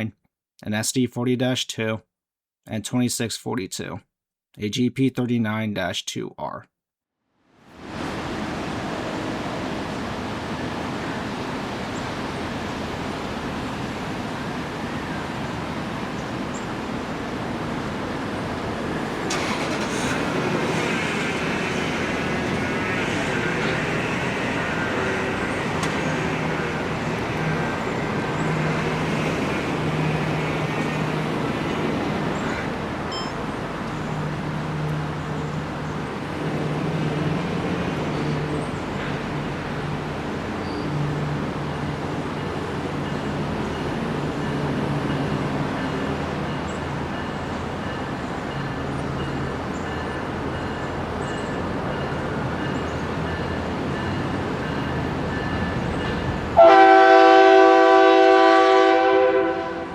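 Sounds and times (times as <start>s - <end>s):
street traffic passing: 7.7s - 59.9s.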